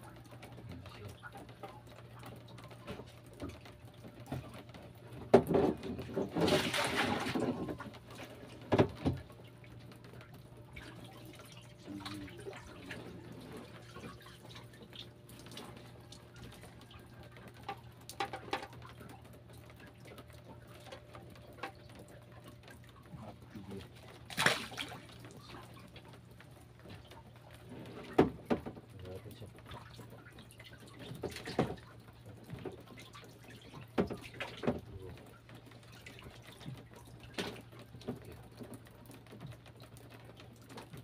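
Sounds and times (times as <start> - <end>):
water dripping and splashing: 0.0 - 41.0
faint low hum: 5.7 - 38.8.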